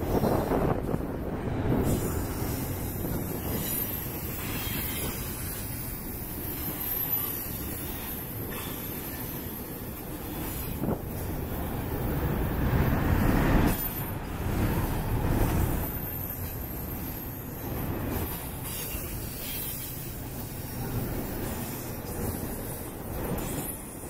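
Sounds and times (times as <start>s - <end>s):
steel wheels rumbling on rails: 0.0s - 24.0s.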